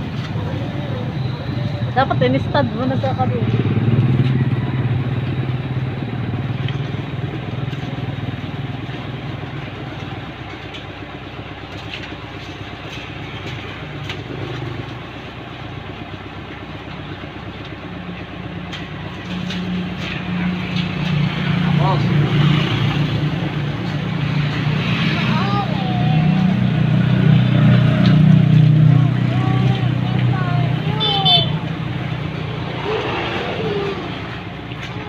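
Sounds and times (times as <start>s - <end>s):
motorcycles passing: 0.0s - 35.0s.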